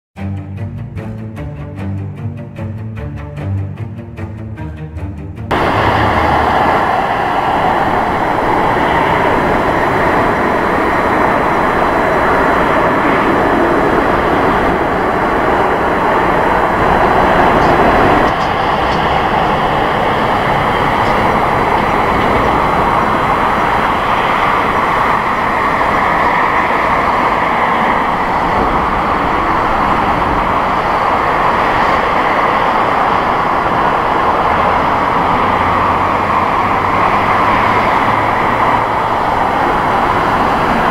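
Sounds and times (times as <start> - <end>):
jet engines rushing: 5.5 - 40.9.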